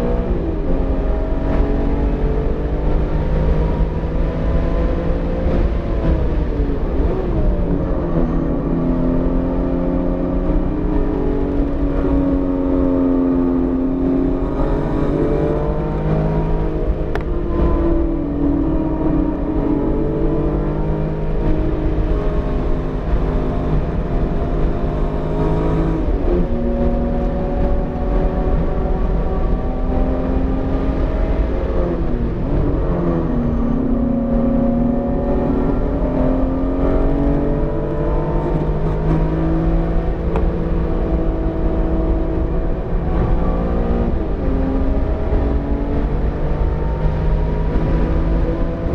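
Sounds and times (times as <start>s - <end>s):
car engine accelerating and shifting: 0.0s - 48.9s
road and wind noise: 0.0s - 48.9s.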